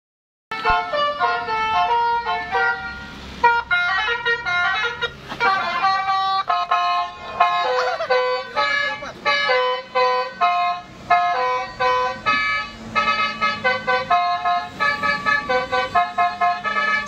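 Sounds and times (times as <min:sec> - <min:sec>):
multi-tone horn playing a melody: 0:00.5 - 0:17.0.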